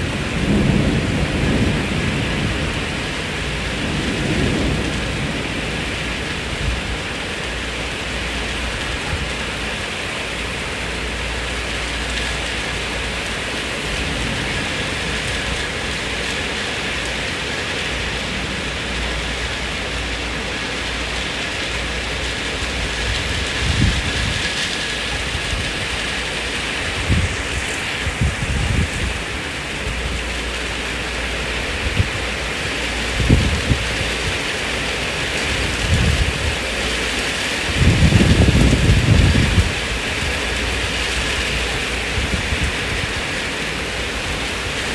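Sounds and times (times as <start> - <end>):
heavy rain falling: 0.0 - 44.9
low rumbles of thunder: 0.0 - 44.9.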